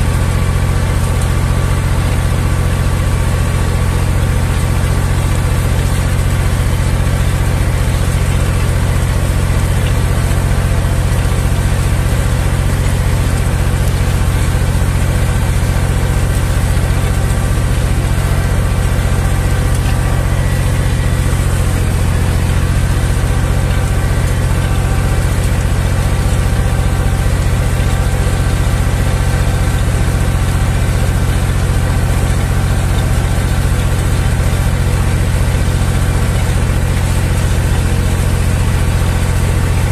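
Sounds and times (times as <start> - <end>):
tractor diesel engine rumbling: 0.0 - 39.9.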